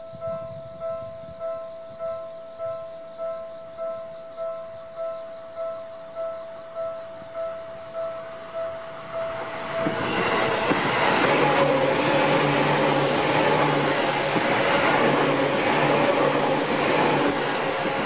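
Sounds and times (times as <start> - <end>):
electric train passing at speed: 0.0 - 18.0.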